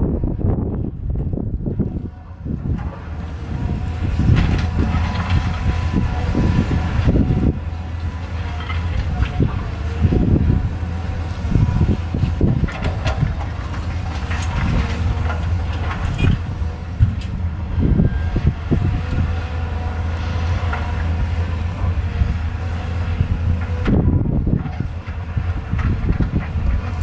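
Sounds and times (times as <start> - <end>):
diesel engine running: 0.1 - 27.0.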